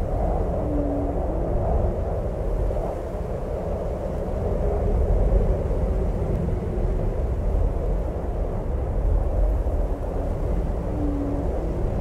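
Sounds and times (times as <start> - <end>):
howling snowstorm wind: 0.0 - 12.0.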